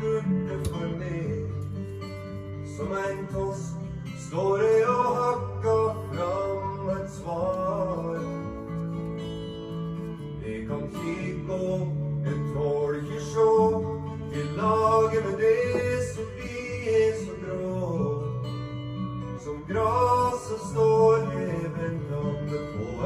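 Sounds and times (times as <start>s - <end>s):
person singing: 0.0s - 1.9s, 2.6s - 8.7s, 10.4s - 18.5s, 19.4s - 23.0s
acoustic guitar: 0.0s - 23.0s.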